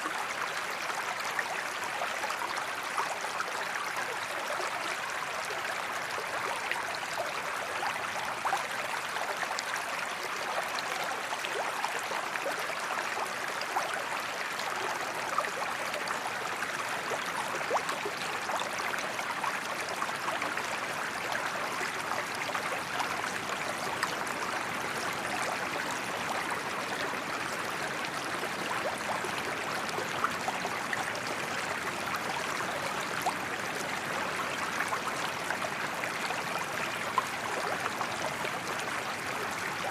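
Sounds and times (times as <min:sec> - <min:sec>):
creek burbling over stones: 0:00.0 - 0:39.9.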